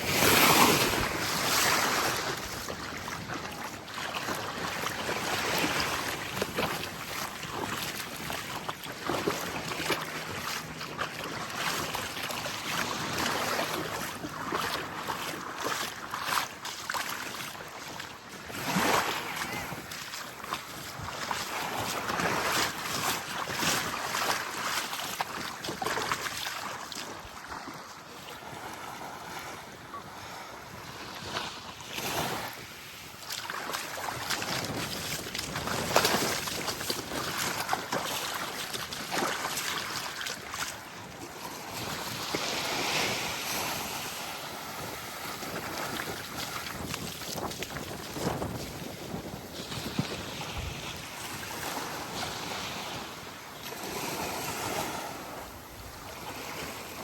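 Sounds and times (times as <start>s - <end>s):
wind on microphone: 0.0s - 10.5s, 18.2s - 57.0s
small waves lapping on sand: 0.0s - 57.0s.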